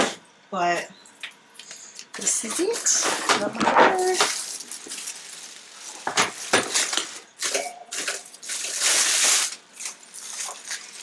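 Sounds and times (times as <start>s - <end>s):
plastic packaging rustling: 1.2s - 11.0s.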